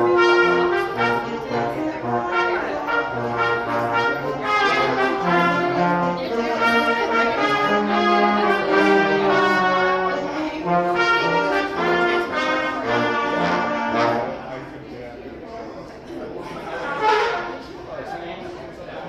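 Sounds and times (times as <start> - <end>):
brass ensemble music: 0.0 - 14.6, 16.8 - 17.7.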